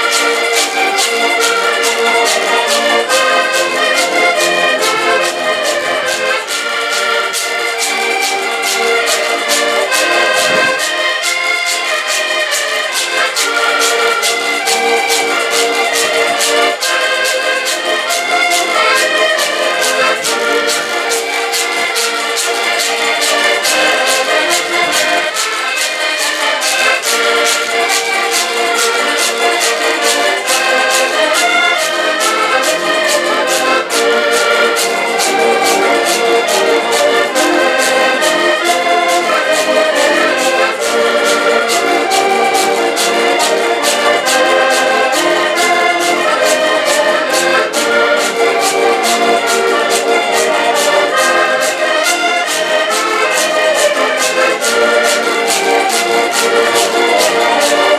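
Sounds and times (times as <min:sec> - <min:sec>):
accordion folk tune: 0:00.0 - 0:57.9.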